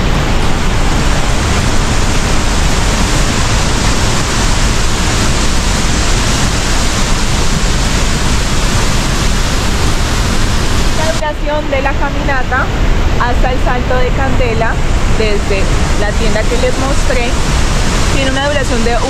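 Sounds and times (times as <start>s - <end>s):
waterfall rushing onto rocks: 0.0s - 11.2s, 14.8s - 19.0s.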